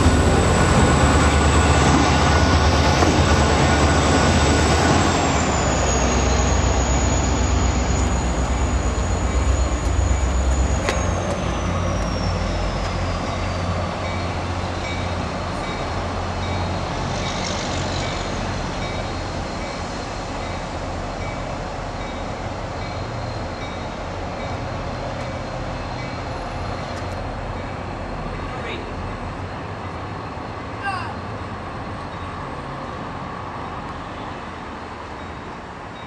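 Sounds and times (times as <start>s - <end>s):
diesel train rumble: 0.0s - 36.0s
train rolling in rumble: 0.0s - 36.0s.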